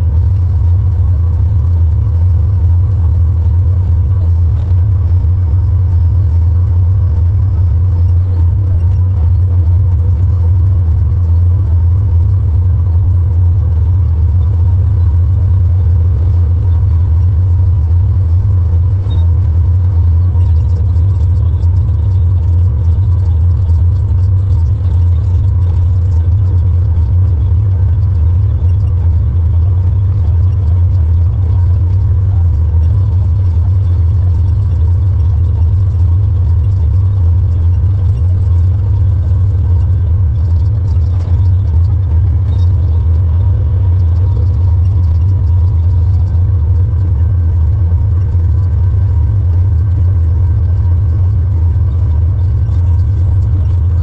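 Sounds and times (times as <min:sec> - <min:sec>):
tractor engine humming: 0:00.0 - 0:54.0.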